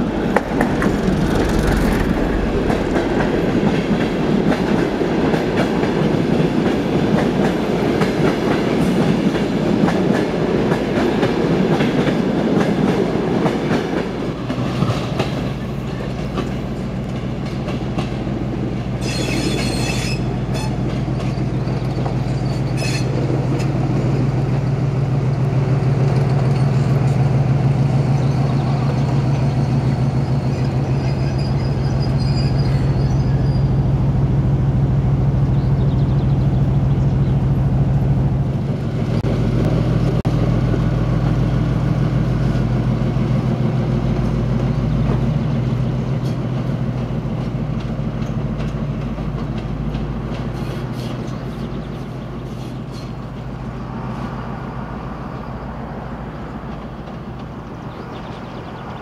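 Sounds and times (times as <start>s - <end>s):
diesel locomotive engine droning: 0.0s - 59.0s.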